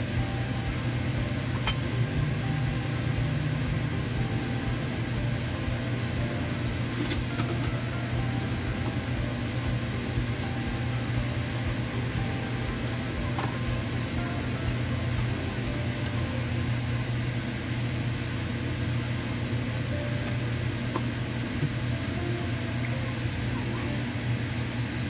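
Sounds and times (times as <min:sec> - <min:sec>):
constant hiss: 0:00.0 - 0:25.0
low mechanical hum: 0:00.0 - 0:25.0.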